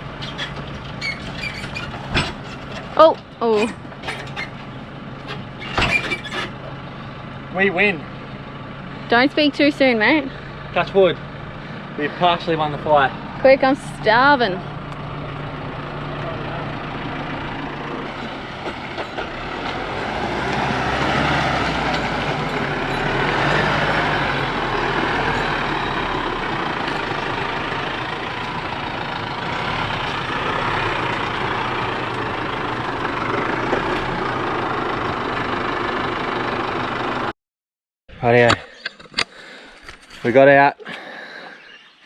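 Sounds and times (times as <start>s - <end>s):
vehicle engine under load: 0.0s - 37.3s.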